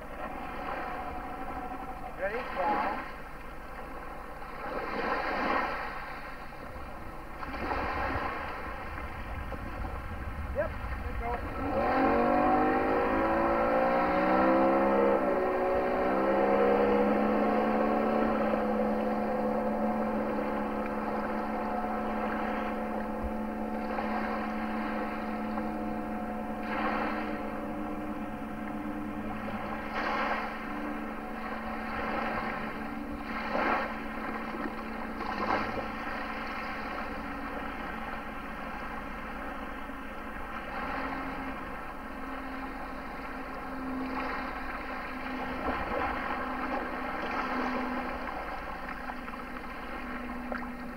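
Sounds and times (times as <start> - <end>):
motorboat engine: 0.0 - 50.9
short water swishes: 0.0 - 50.9.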